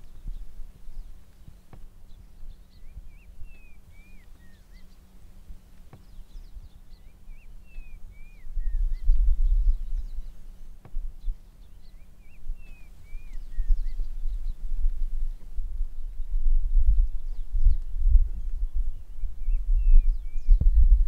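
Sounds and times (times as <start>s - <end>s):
bird whistling song: 0.0s - 5.2s, 5.9s - 21.0s
low rumble: 0.0s - 21.0s.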